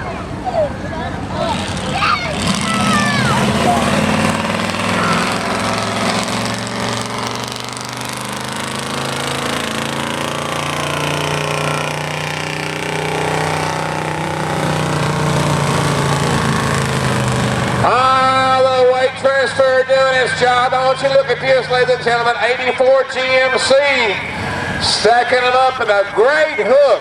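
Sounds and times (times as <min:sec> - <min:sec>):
truck engine running hard: 0:00.0 - 0:27.0.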